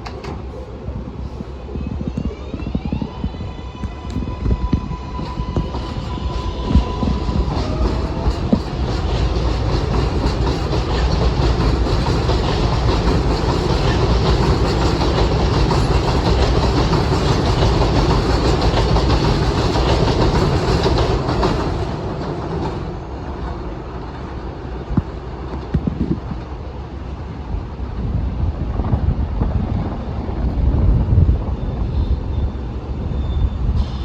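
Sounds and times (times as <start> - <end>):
subway train wheels clattering: 0.0 - 34.0.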